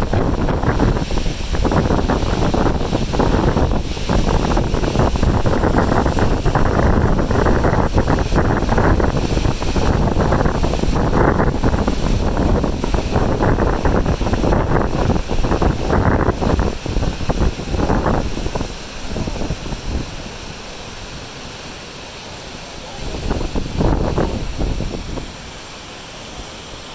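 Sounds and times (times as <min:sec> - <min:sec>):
distant ocean surf breaking: 0:00.0 - 0:26.9
gusty wind buffeting microphone: 0:00.0 - 0:26.9.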